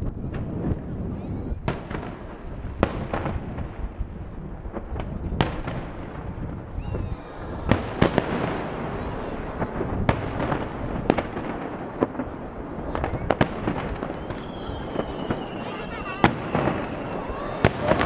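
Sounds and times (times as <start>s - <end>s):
fireworks booms rumbling: 0.0s - 18.0s
sharp fireworks cracks: 0.0s - 18.0s.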